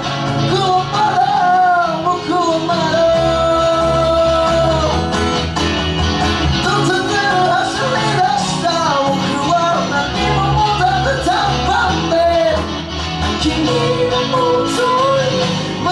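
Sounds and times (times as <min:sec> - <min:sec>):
man singing: 0:00.0 - 0:05.5, 0:06.4 - 0:15.9
live band music: 0:00.0 - 0:15.9.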